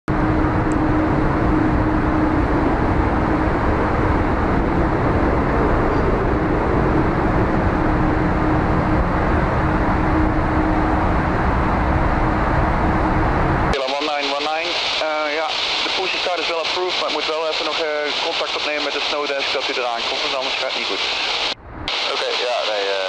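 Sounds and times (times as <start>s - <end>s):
constant low hum: 0.1s - 23.0s
steady rumbling noise: 0.1s - 23.0s.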